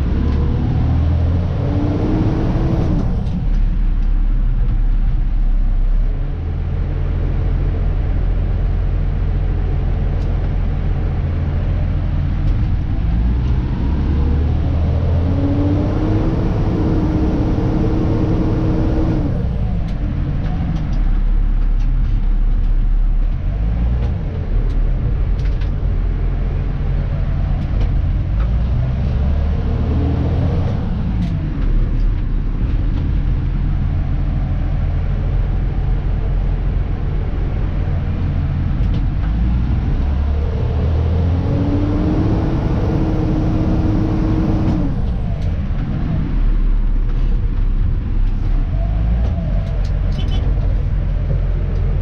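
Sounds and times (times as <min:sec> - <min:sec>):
truck diesel engine drone: 0:00.0 - 0:52.0.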